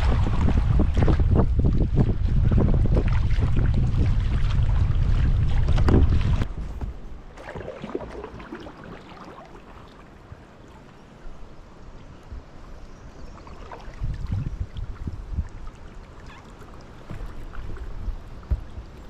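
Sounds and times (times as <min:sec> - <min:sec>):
paddle strokes in water: 0:00.0 - 0:19.0
water splashing and trickling: 0:00.0 - 0:19.0.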